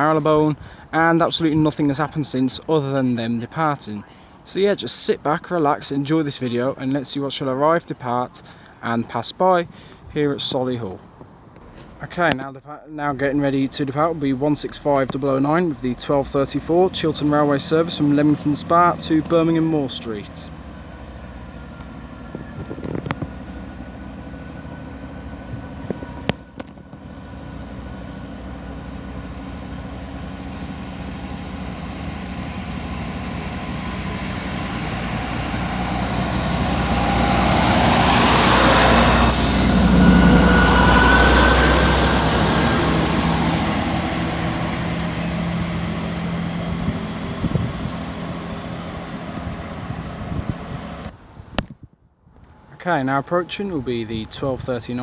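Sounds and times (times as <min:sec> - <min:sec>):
rail noise rushing: 0:00.0 - 0:51.4
diesel train engines: 0:00.0 - 0:51.5, 0:52.4 - 0:55.0.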